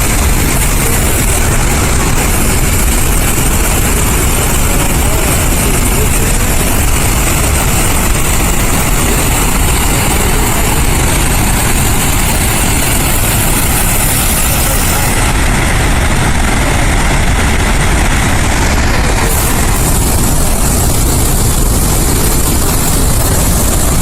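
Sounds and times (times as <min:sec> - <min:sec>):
deep rumble: 0:00.0 - 0:24.0
water roaring from dam outlet: 0:00.0 - 0:24.0.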